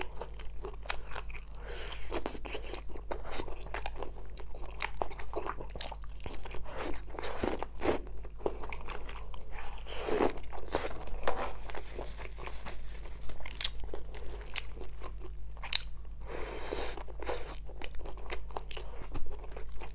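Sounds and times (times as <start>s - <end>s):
chewing crunchy food: 0.0s - 19.9s.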